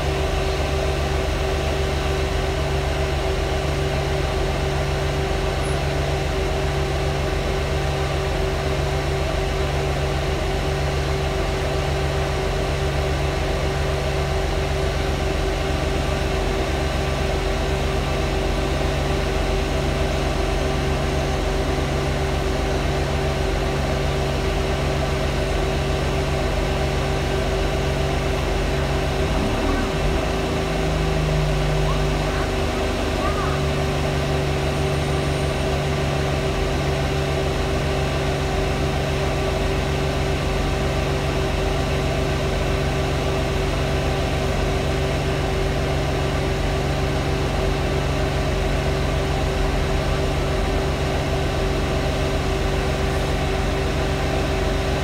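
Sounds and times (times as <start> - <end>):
bus engine hum: 0.0 - 55.0
loud fan drone: 0.0 - 55.0.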